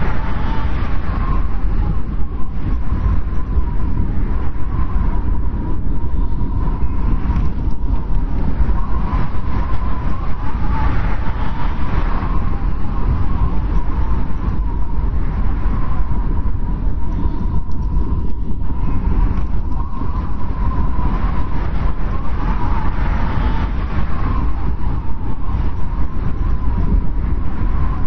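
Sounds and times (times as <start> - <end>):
blizzard wind rumbling: 0.0 - 28.0
wind whistle: 0.0 - 28.0.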